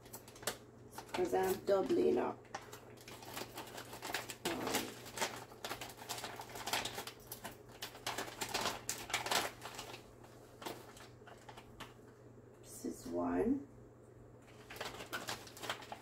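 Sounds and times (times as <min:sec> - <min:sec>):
plastic bag crinkling: 0:00.0 - 0:12.1, 0:14.4 - 0:16.0.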